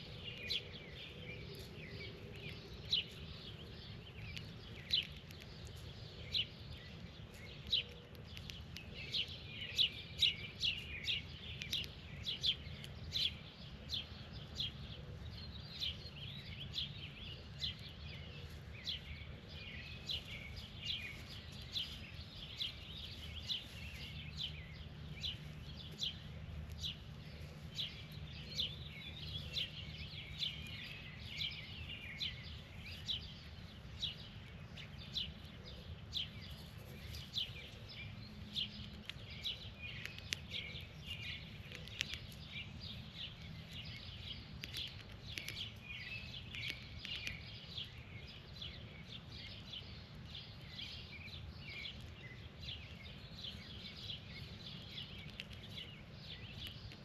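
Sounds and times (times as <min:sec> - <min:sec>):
birds chirping: 0:00.0 - 0:57.0
steady low rumble: 0:00.0 - 0:57.0.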